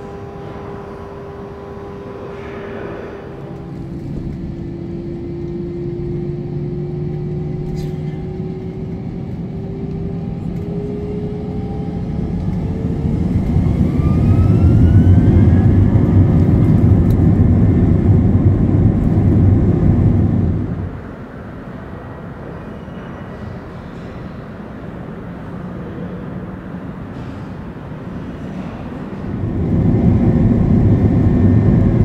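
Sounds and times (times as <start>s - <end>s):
jet engines spooling up: 0.0s - 21.6s, 26.2s - 32.0s
engine rumble: 0.0s - 32.0s.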